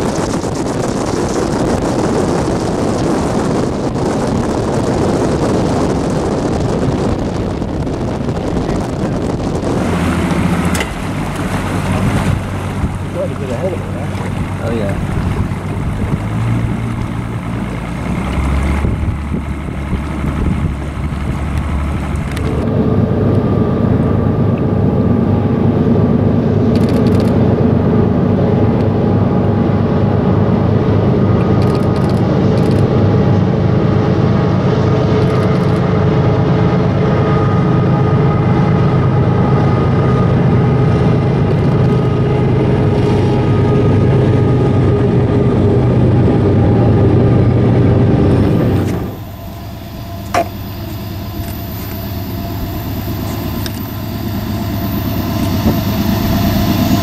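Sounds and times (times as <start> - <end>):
water rushing: 0.0 - 32.8, 37.7 - 57.0
boat motor running: 0.0 - 57.0
wind: 0.0 - 57.0.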